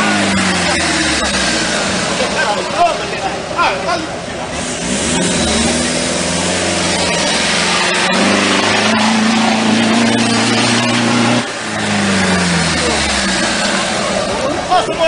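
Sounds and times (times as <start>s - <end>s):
engine revving under load: 0.0s - 3.0s, 4.4s - 14.8s.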